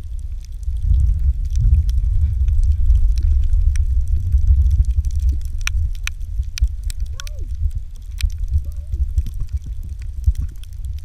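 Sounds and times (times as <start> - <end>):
faint clicks and crackles: 0.0 - 11.0
muffled underwater rumble: 0.0 - 11.0.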